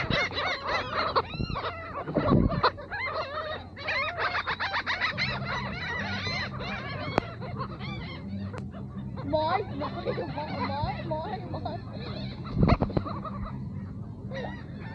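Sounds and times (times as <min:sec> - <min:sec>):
low steady hum: 0:00.0 - 0:14.9
seagulls squawking: 0:00.0 - 0:14.9.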